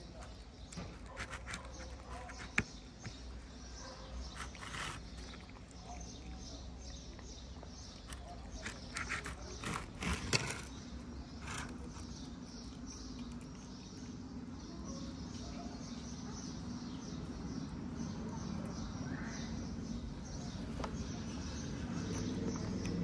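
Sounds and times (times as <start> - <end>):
cat chewing: 0.0 - 19.0, 20.9 - 23.0
cat crunching dry kibble: 0.0 - 19.0, 20.6 - 23.0.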